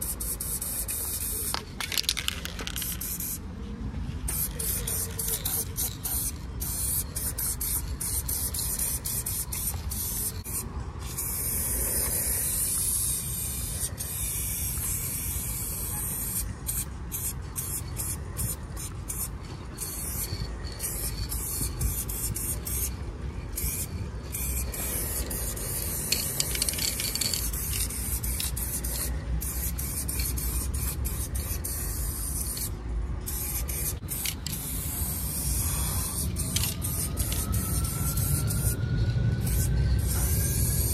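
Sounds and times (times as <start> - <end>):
spray paint cans hissing: 0.0 - 3.5, 4.1 - 40.9.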